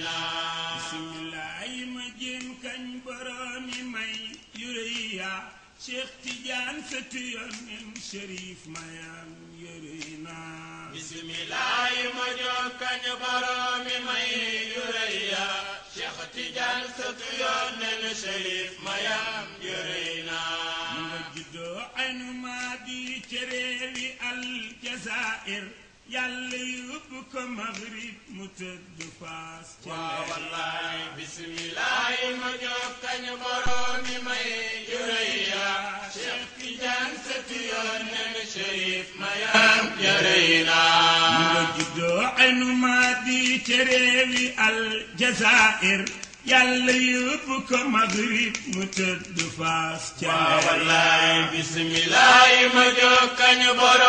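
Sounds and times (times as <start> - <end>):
men chanting devotional song: 0.0 - 54.0.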